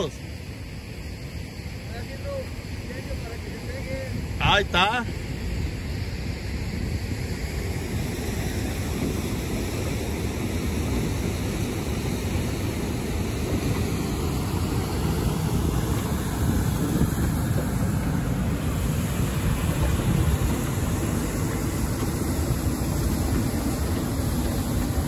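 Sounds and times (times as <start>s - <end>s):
river rushing over riffles: 0.0s - 25.0s
wind buffeting microphone: 1.5s - 25.0s.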